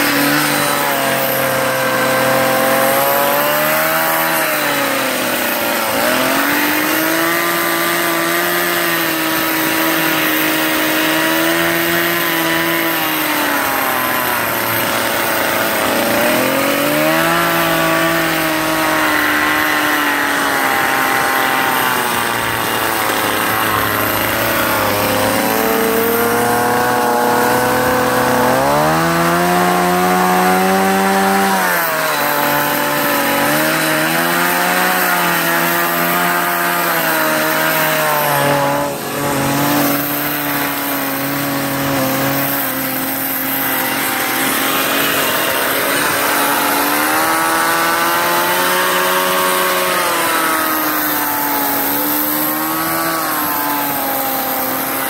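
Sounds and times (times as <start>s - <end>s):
chainsaw carving wood: 0.0s - 55.0s.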